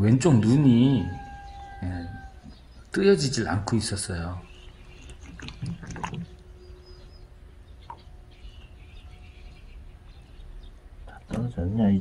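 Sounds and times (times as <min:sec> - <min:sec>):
faint high bird chirps: 0:00.3 - 0:12.0.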